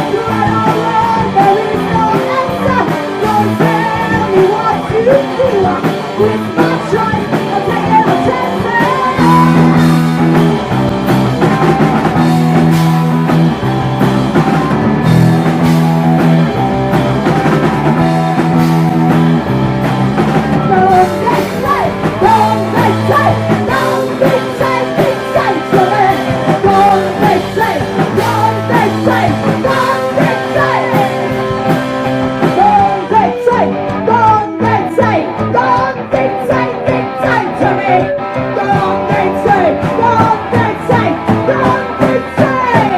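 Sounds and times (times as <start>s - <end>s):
punk rock band playing: 0.0s - 42.9s
wavering lead guitar: 0.0s - 42.9s.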